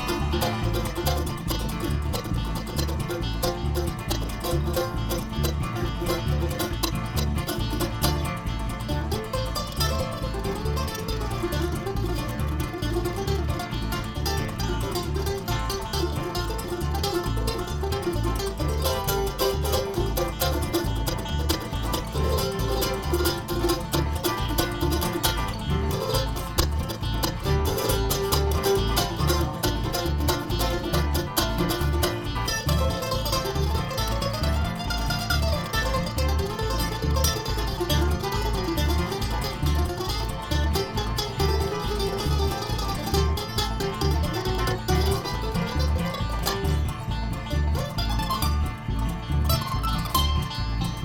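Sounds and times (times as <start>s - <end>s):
bluegrass band playing: 0.0s - 51.0s.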